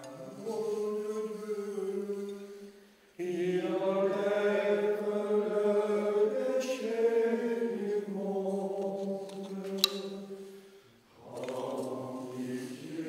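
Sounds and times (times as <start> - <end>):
voices singing slow chant: 0.0 - 13.0.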